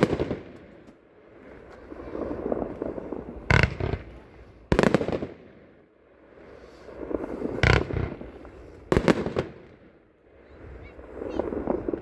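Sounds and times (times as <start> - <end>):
firework bangs: 0.0 - 5.9, 6.6 - 12.0
firework crackle: 0.0 - 12.0.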